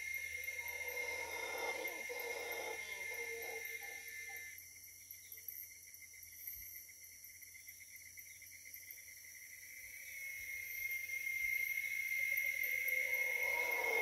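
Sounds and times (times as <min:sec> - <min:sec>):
fast pulsing insect trill: 0:00.0 - 0:14.0
insects trilling: 0:00.0 - 0:14.0.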